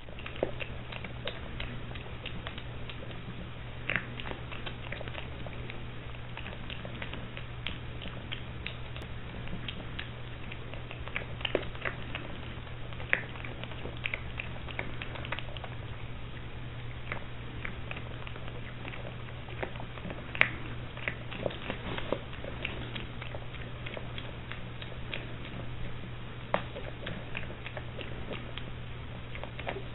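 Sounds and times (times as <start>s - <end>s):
piglet crunching feed: 0.0s - 29.9s
steady low hum: 0.0s - 29.9s.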